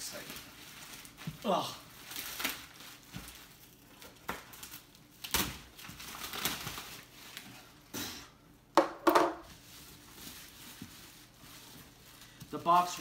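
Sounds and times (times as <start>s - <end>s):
plastic bag rustling and tearing: 0.0s - 7.6s, 9.5s - 13.0s.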